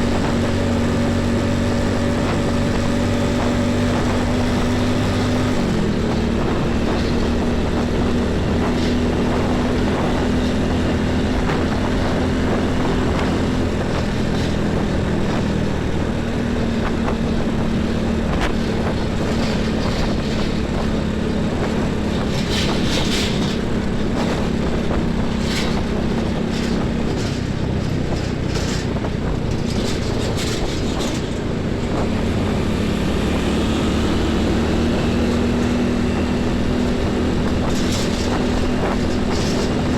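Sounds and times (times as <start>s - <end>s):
heavy traffic engine drone: 0.0s - 39.9s.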